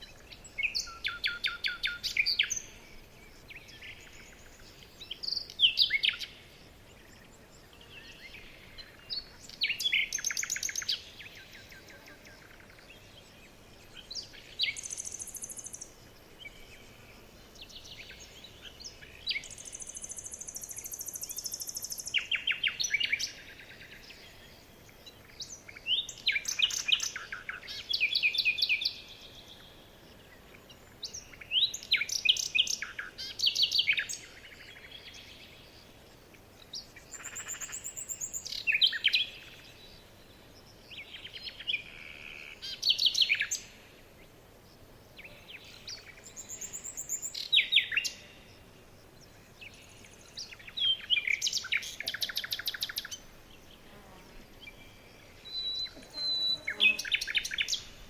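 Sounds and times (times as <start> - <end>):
songbirds trilling: 0.0 - 58.0.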